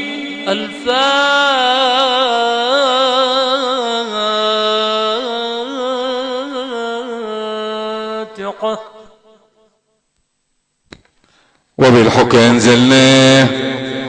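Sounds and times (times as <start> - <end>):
man chanting melismatic recitation: 0.0 - 9.6, 11.8 - 14.0.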